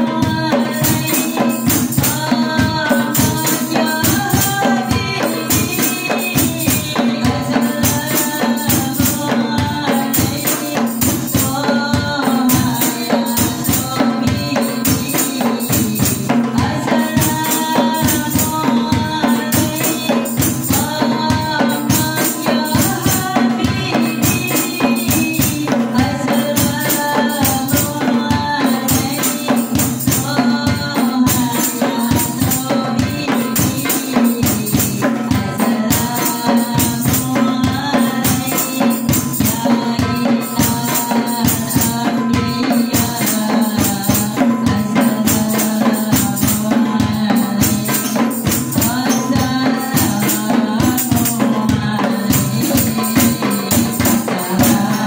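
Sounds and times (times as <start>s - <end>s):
frame drums beating: 0.0s - 55.0s
jingling tambourine: 0.0s - 55.0s
large drum: 0.0s - 55.0s
woman singing into a microphone: 0.0s - 55.0s.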